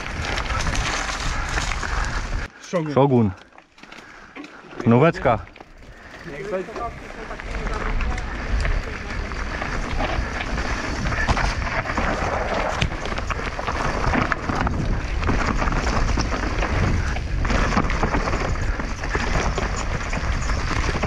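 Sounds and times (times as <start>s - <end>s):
wind buffeting microphone: 0.0s - 2.5s, 5.2s - 21.0s
bike clattering over rough ground: 0.0s - 21.0s
bike tyres on dirt trail: 0.0s - 21.0s.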